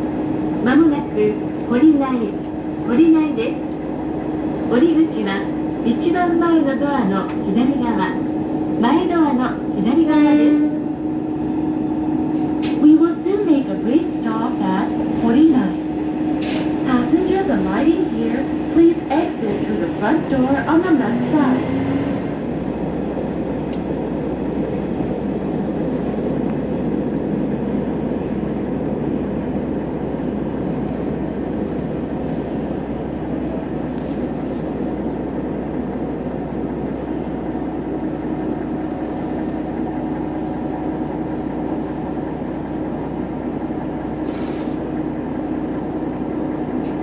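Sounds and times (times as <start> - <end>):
railcar engine and wheels rumbling: 0.0 - 47.0.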